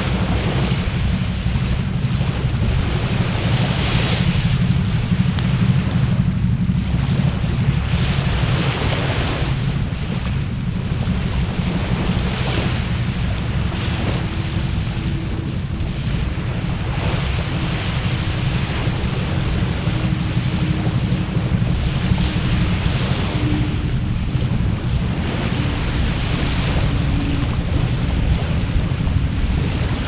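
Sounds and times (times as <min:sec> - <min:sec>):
campfire flames rumbling: 0:00.0 - 0:30.0
high-pitched whine: 0:00.0 - 0:30.0.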